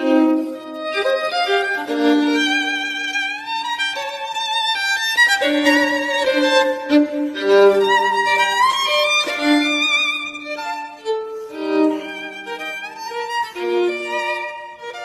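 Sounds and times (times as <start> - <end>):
violin melody with vibrato: 0.0 - 15.0.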